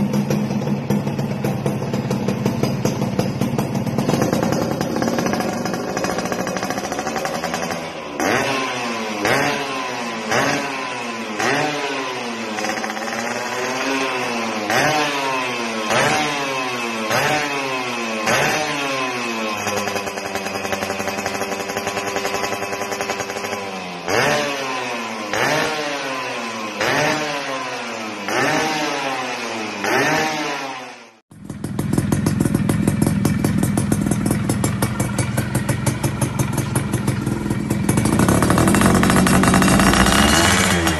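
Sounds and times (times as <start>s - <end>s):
two-stroke exhaust pulsing: 0.0s - 30.5s, 31.3s - 40.9s
motorcycle engine revving: 0.0s - 40.9s.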